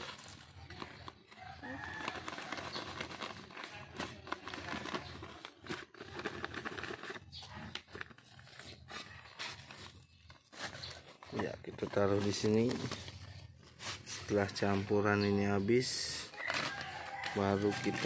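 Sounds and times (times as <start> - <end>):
plastic bag crinkling: 0.0 - 15.1, 15.8 - 18.0.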